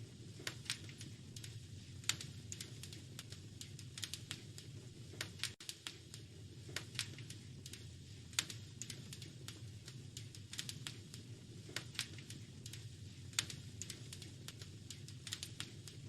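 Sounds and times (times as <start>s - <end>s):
low steady background noise: 0.0s - 16.0s
wood fire crackling and popping: 0.0s - 16.0s.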